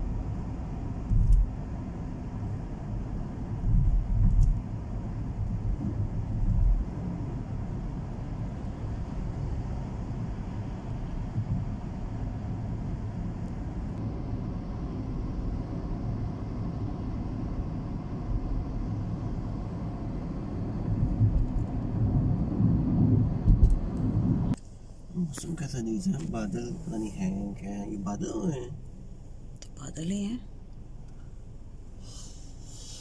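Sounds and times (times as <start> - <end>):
car driving interior rumble: 0.0 - 33.0.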